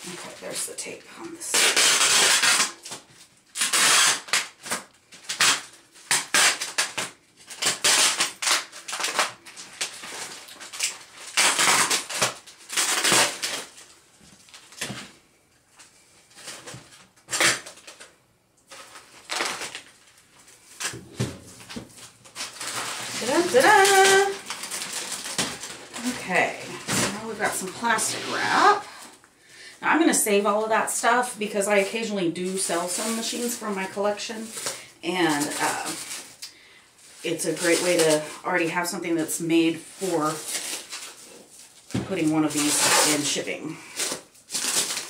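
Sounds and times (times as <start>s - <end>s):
plastic packaging crinkling: 0.0s - 29.3s, 31.6s - 38.5s, 39.8s - 45.0s.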